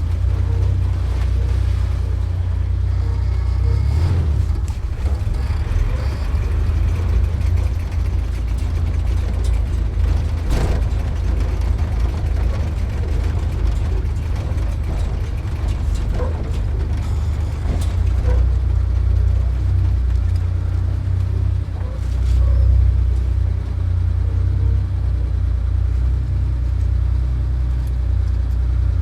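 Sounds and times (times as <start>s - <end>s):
light knocks and rattles: 0.0s - 24.6s
car engine low rumble: 0.0s - 29.0s.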